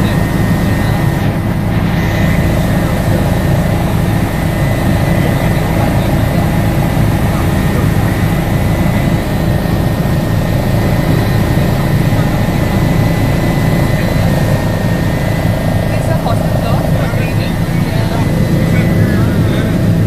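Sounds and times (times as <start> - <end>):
helicopter rotor and engine drone: 0.0 - 20.0
thin steady whine: 0.0 - 20.0.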